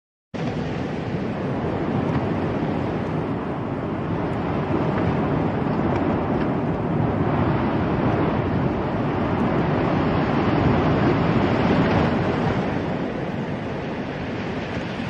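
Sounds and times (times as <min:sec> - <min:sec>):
surf: 0:00.4 - 0:15.0
wind blowing across microphone: 0:00.4 - 0:15.0.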